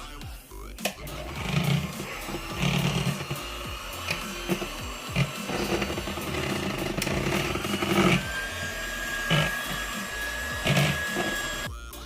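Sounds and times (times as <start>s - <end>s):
electric mixer running: 1.0s - 11.7s.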